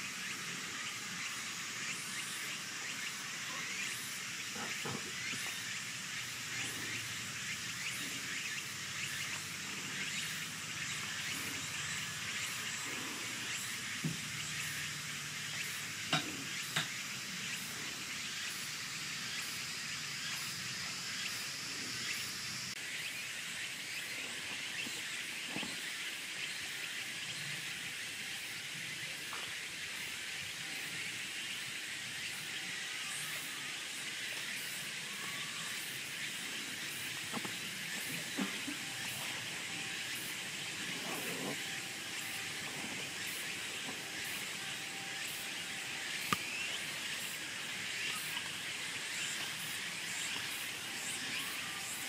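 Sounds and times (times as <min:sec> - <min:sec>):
outdoor hiss: 0:00.0 - 0:52.0.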